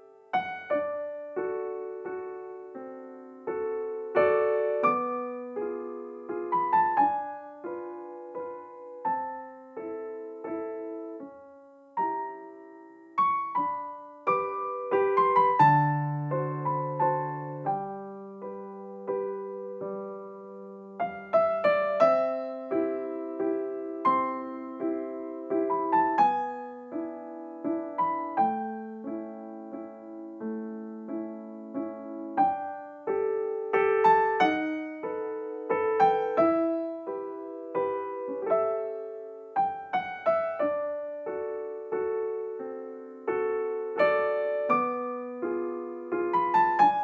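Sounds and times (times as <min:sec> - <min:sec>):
gentle solo piano music: 0:00.0 - 0:47.0.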